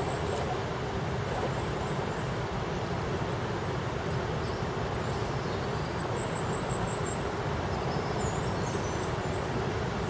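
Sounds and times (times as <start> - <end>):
river rushing in flood: 0.0 - 10.0.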